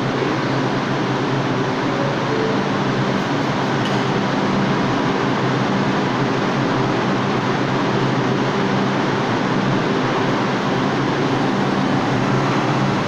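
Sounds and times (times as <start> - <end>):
subway train equipment hum: 0.0 - 13.0.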